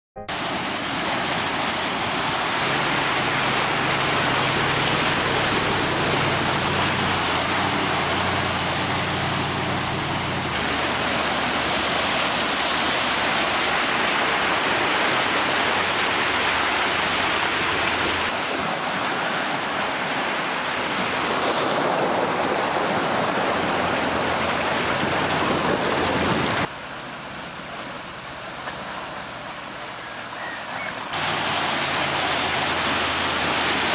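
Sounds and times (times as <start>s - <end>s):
water rushing and splashing: 0.2s - 33.9s
low engine hum: 0.9s - 18.6s, 21.8s - 33.9s.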